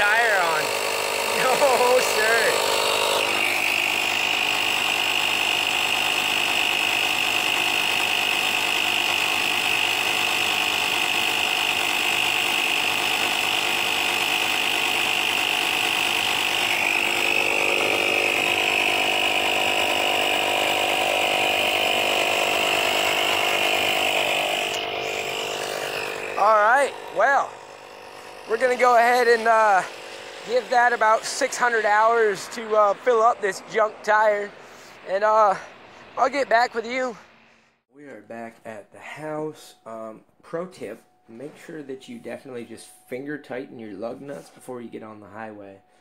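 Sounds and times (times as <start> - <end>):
tire inflator compressor running: 0.0 - 37.9.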